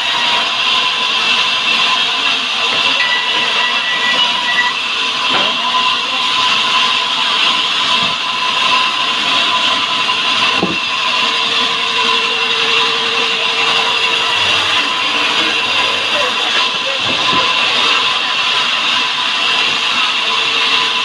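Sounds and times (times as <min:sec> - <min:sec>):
band saw cutting a log: 0:00.0 - 0:21.0
high-pitched saw whine: 0:00.0 - 0:21.0.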